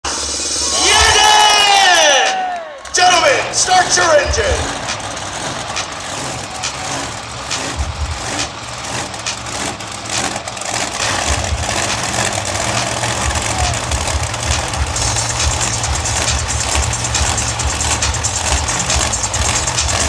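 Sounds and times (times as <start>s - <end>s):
crowd and arena noise: 0.0s - 20.0s
monster truck engine rumbling: 0.0s - 20.0s.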